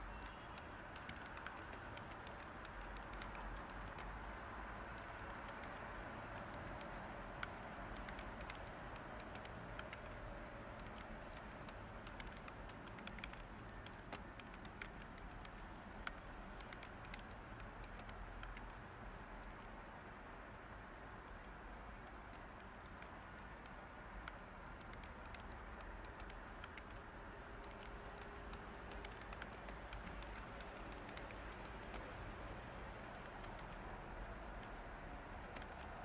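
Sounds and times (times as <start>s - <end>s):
keyboard typing: 0.0s - 4.2s, 4.8s - 18.8s, 21.4s - 32.1s, 33.0s - 33.9s, 34.5s - 36.0s
white noise hiss: 0.0s - 36.0s.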